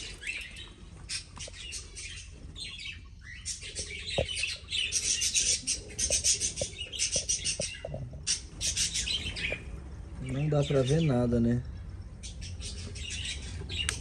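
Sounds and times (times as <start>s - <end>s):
small birds chirping and chattering: 0.0s - 14.0s.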